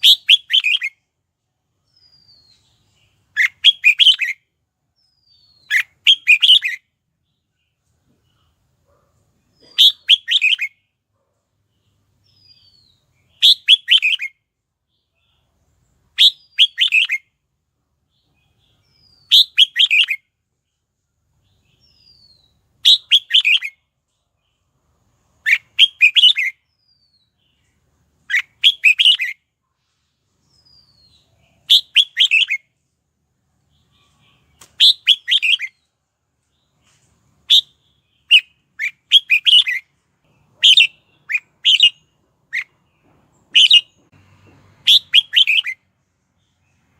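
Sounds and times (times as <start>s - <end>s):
bird singing warbled phrases: 0.0s - 11.0s, 11.6s - 29.6s, 30.4s - 32.9s, 33.6s - 46.9s.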